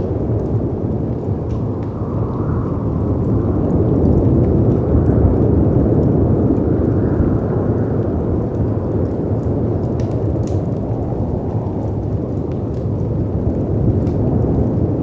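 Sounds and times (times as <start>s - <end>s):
howling wind: 0.0s - 15.0s
wood fire crackling: 0.0s - 15.0s.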